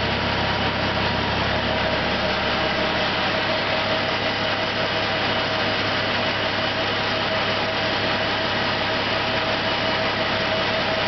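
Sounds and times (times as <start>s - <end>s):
air compressor running: 0.0s - 11.0s
tractor engine running: 0.0s - 11.0s.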